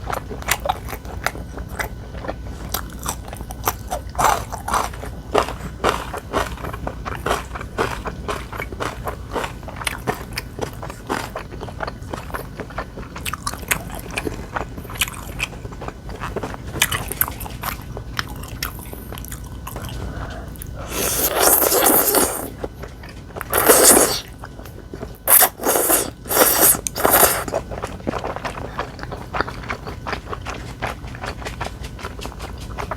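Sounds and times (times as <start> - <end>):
crunchy chewing: 0.0 - 32.9.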